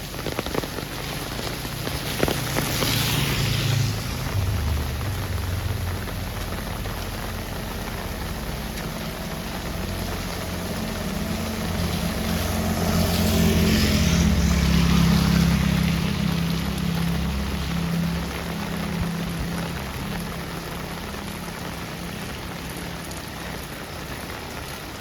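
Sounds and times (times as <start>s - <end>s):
heavy rain: 0.0s - 25.0s
tyres hissing on wet road: 0.0s - 25.0s
vehicle engine hum: 0.0s - 25.0s.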